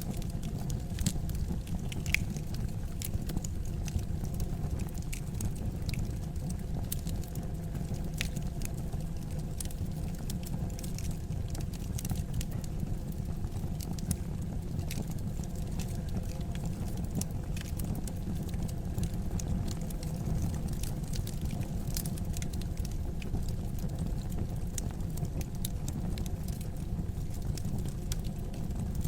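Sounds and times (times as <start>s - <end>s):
fire crackling and popping: 0.0s - 29.0s
low fire rumble: 0.0s - 29.0s.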